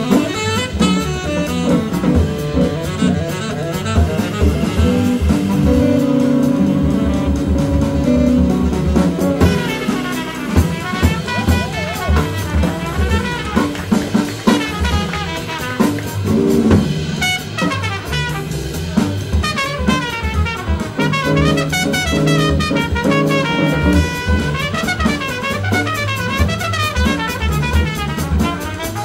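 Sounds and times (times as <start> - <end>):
drum kit: 0.0 - 29.0
trumpet playing: 0.0 - 29.0
upright bass: 0.0 - 29.0.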